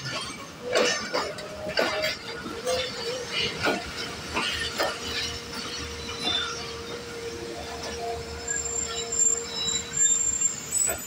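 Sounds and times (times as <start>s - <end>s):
train wheels clacking over joints: 0.0s - 11.0s.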